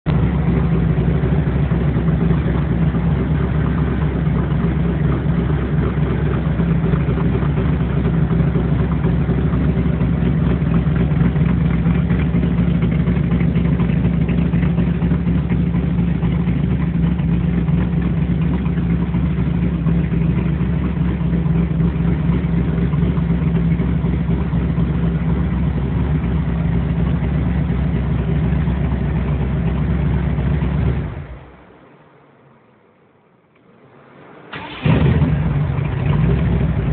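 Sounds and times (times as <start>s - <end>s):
engine idling: 0.0s - 32.1s, 33.8s - 36.9s.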